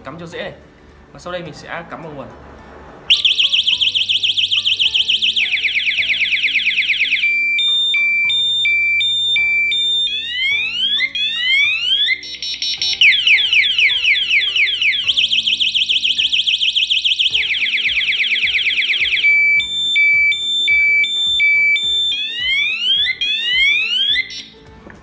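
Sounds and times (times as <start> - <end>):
electronic siren cycling tones: 3.1 - 24.6.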